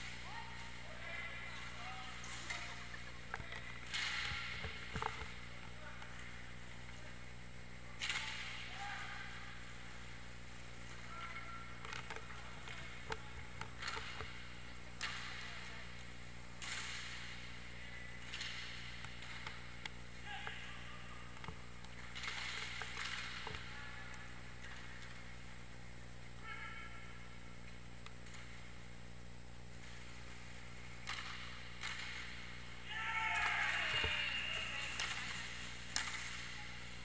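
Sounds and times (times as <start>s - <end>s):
steady low hum: 0.0s - 37.0s
hockey sticks clicking: 0.1s - 7.0s, 8.0s - 15.8s, 16.6s - 17.4s, 18.2s - 20.6s, 21.3s - 25.5s, 27.7s - 28.6s, 29.8s - 37.0s.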